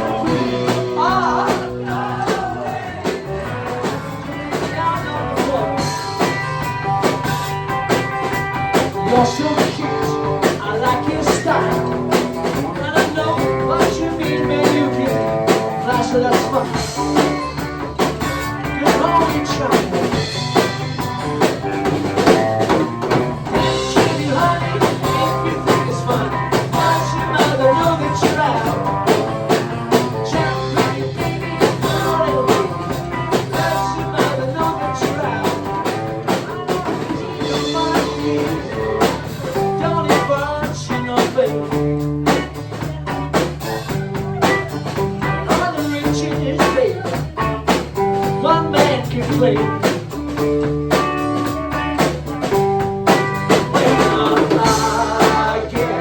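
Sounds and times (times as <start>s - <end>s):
drum kit beat: 0.0s - 56.0s
live blues-rock band: 0.0s - 56.0s.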